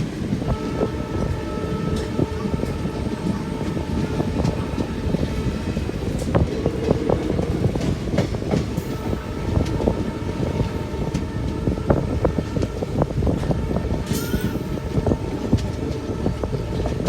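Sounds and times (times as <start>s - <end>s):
train rumbling on track: 0.0s - 17.0s
train wheels knocking and clattering: 1.2s - 17.0s.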